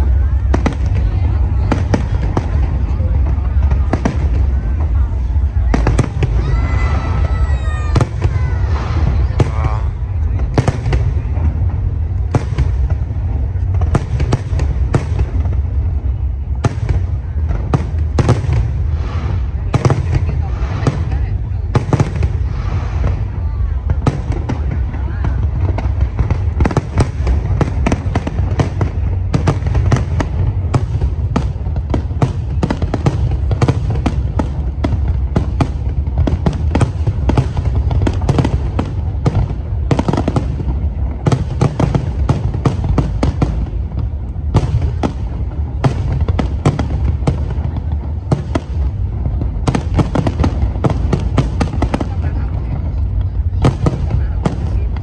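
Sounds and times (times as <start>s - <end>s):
fireworks bangs and crackles: 0.0s - 55.0s
low rumble of firework launches: 0.0s - 55.0s.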